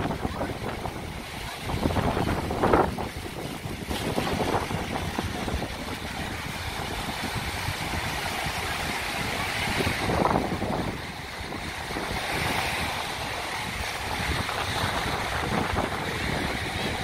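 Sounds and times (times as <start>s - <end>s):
small waves breaking on shore: 0.0s - 17.0s
wind buffeting microphone: 0.0s - 17.0s.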